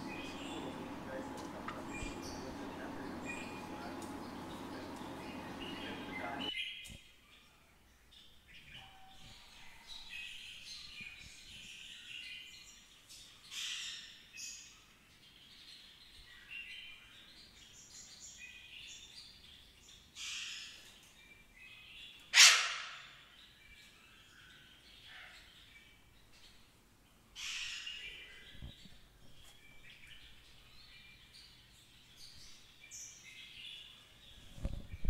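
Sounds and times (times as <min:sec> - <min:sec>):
songbirds chirping: 0:00.0 - 0:13.6, 0:14.4 - 0:22.3, 0:23.1 - 0:35.0.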